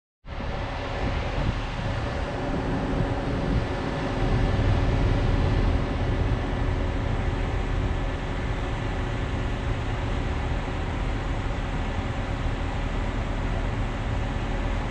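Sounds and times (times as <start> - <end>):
road traffic rumble: 0.3 - 14.9.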